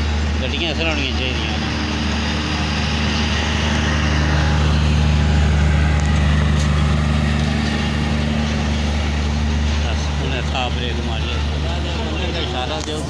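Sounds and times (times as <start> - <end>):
low engine hum: 0.0 - 13.0
train coaches rolling past: 0.0 - 13.0.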